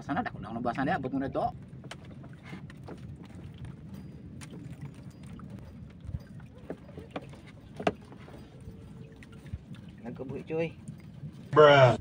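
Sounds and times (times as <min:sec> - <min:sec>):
water washing against boat: 0:00.0 - 0:12.0.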